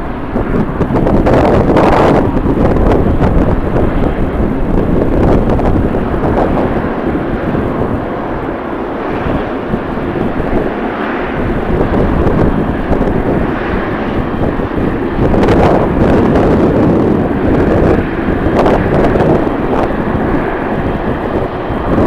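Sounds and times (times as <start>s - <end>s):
jet engine noise: 0.0s - 22.0s
wind buffeting microphone: 0.0s - 22.0s.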